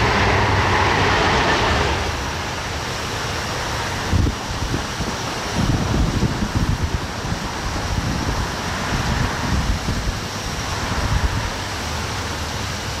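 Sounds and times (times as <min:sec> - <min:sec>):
outdoor hiss: 0:00.0 - 0:13.0
wind buffeting microphone: 0:00.0 - 0:13.0.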